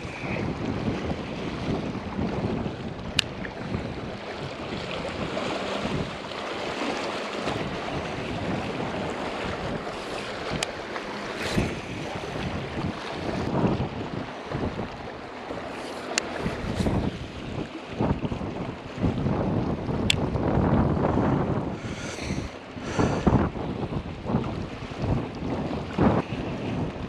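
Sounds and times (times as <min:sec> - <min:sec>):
wind gusting across microphone: 0:00.0 - 0:27.0.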